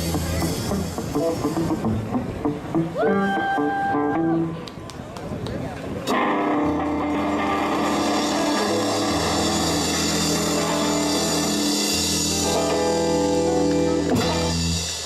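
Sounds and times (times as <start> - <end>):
rock band playing: 0.0 - 4.6, 6.1 - 15.0.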